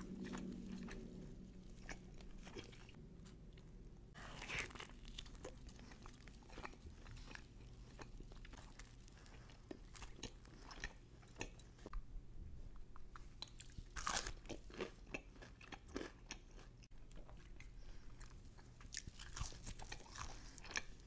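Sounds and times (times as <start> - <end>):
chewing toasted sandwich: 0.0 - 11.9, 13.1 - 21.0.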